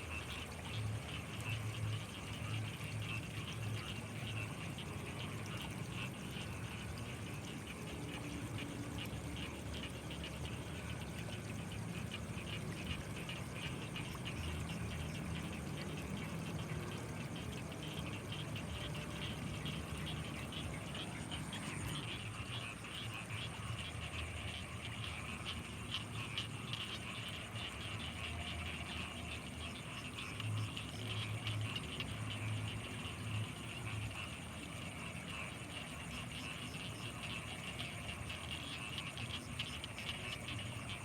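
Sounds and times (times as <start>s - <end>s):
low frog croaks: 0.0s - 41.0s.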